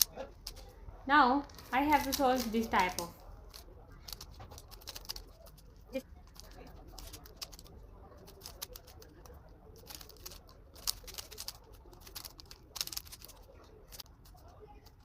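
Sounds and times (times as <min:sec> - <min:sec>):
puzzle cube layers clicking: 0:02.0 - 0:15.0.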